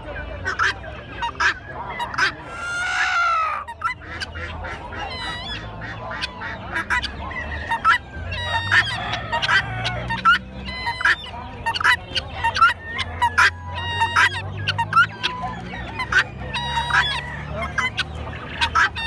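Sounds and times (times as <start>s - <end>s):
poultry calling: 0.0s - 19.0s.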